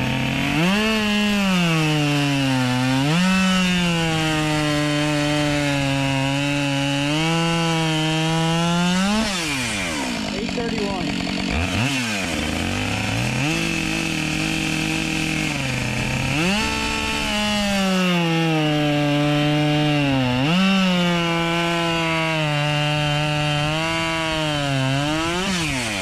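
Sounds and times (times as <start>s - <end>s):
chainsaw cutting through log: 0.0s - 26.0s.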